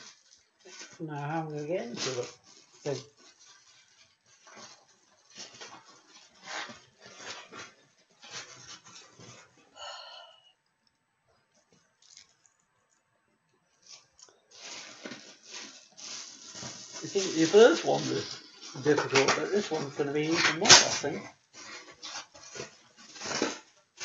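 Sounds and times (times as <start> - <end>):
plastic wrapping rustling: 0.0 - 10.2, 10.8 - 24.0.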